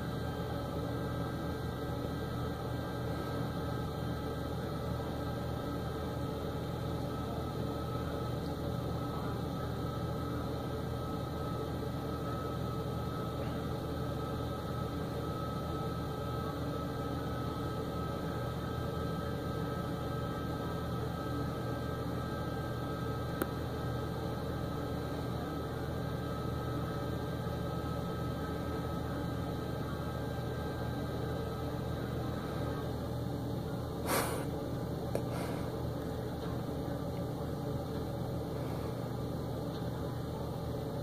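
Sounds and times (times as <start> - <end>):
faint steady whine: 0.0 - 41.0.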